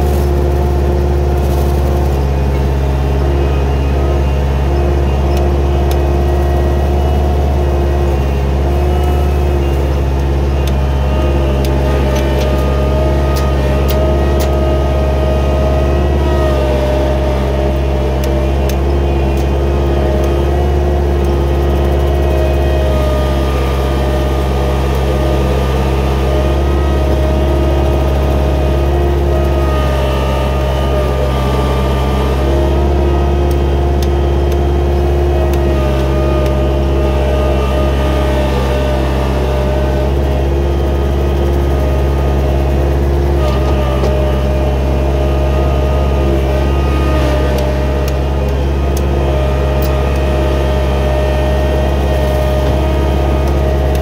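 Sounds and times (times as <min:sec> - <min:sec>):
skid steer engine droning: 0:00.0 - 0:54.0.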